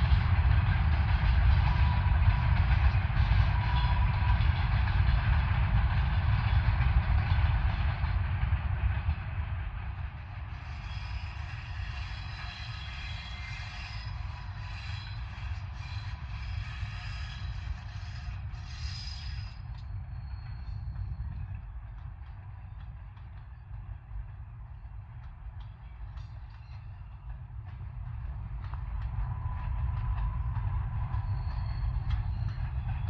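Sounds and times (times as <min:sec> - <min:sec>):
freight train rumbling: 0:00.0 - 0:33.0.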